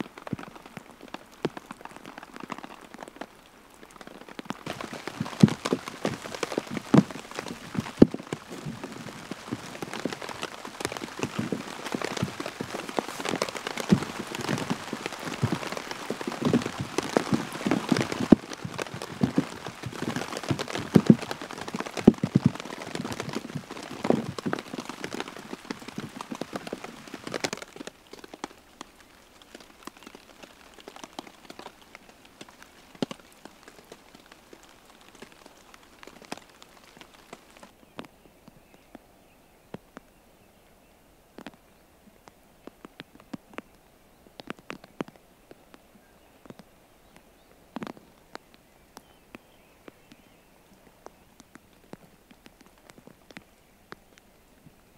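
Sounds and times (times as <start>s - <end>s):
heavy rain: 0.0s - 39.0s, 41.2s - 54.9s
raindrops hitting close by: 0.0s - 54.9s.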